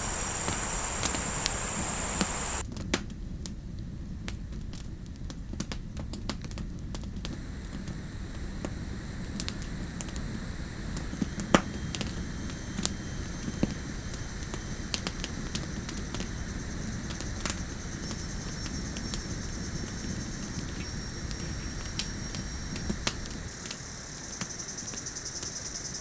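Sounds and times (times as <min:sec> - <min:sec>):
fire crackling and popping: 0:00.0 - 0:25.6
campfire burning: 0:00.0 - 0:26.0.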